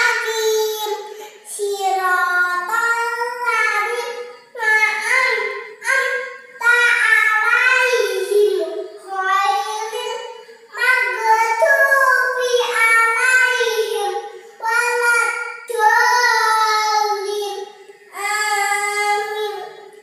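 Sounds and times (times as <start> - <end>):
girl chanting in sing-song voice: 0.0 - 19.9.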